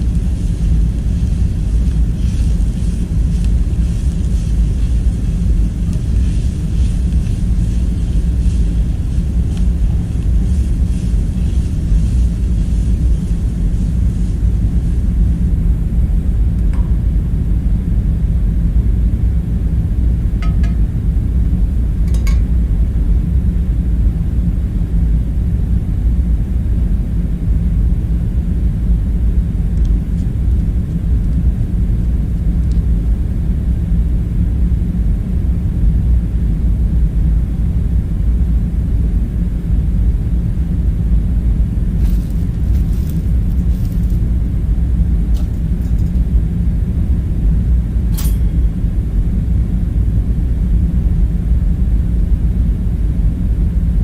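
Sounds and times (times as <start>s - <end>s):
low rumbling room hum: 0.0s - 54.0s.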